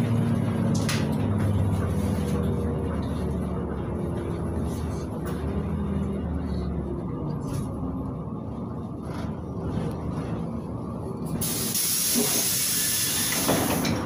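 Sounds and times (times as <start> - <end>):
bus engine hum: 0.0 - 14.0
road and tyre noise: 0.0 - 14.0.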